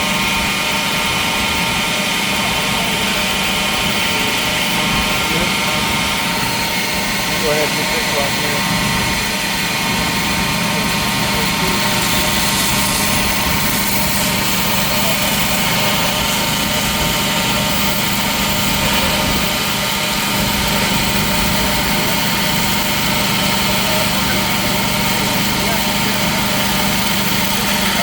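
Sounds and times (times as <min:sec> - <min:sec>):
workshop machinery humming: 0:00.0 - 0:28.0.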